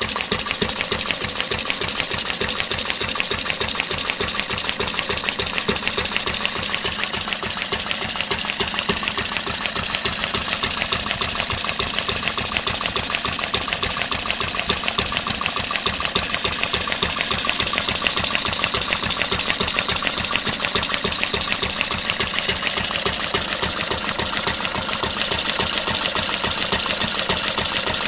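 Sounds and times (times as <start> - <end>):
engine mechanical clatter: 0.0 - 28.0.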